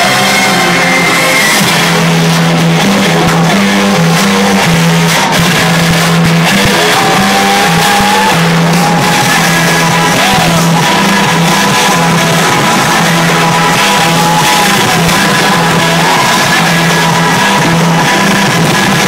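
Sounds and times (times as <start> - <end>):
music with bass line: 0.0 - 19.0.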